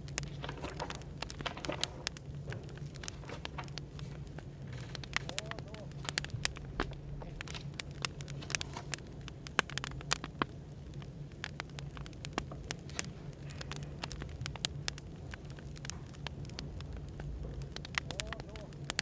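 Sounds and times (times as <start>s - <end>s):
cafe background hum: 0.0s - 19.0s
firewood crackling and popping: 0.0s - 19.0s.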